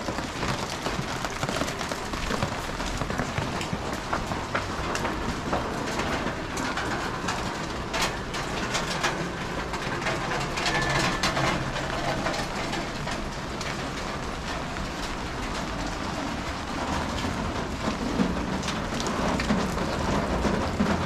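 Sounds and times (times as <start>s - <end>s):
rain on a wet street: 0.0s - 21.0s.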